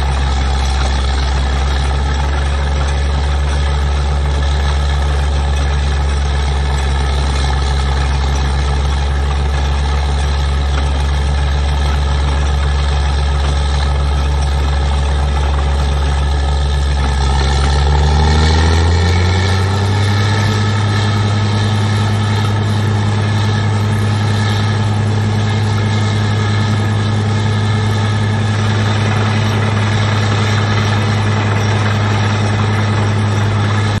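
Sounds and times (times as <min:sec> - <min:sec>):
drilling rig engine running: 0:00.0 - 0:34.0.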